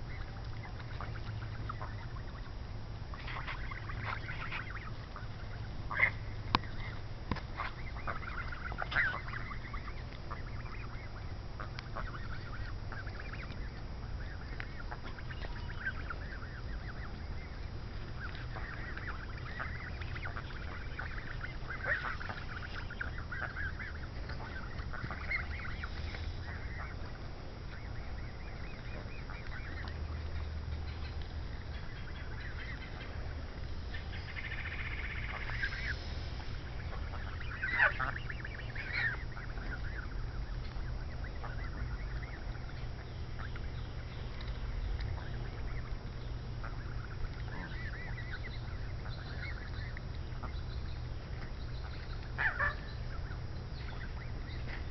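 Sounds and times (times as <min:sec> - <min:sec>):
geese calling: 0:00.0 - 0:54.9
geese honking: 0:00.0 - 0:54.9
low rumble: 0:00.0 - 0:54.9.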